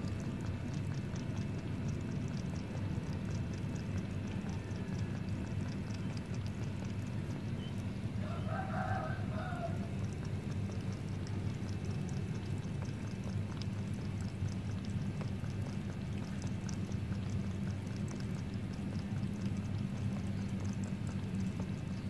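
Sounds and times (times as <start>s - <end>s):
cat lapping water: 0.0s - 22.0s
steady low hum: 0.0s - 22.0s.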